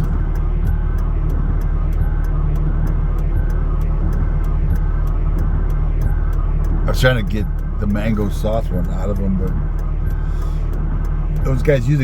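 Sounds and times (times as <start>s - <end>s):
light regular ticking: 0.0s - 12.0s
vehicle engine low rumble: 0.0s - 12.0s.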